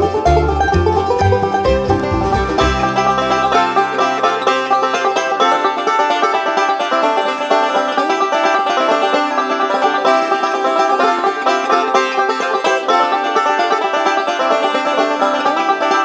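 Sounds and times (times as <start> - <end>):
banjo-led bluegrass tune: 0.0 - 16.0.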